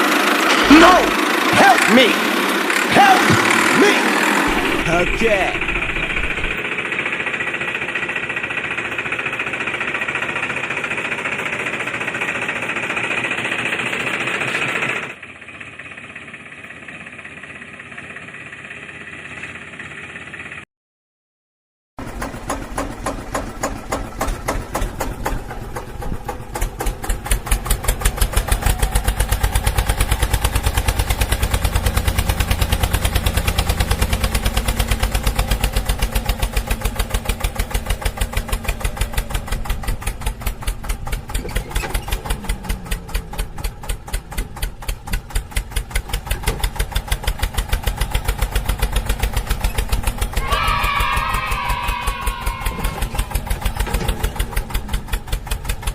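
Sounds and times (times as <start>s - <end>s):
tractor engine chugging: 0.0s - 20.6s, 22.0s - 55.9s.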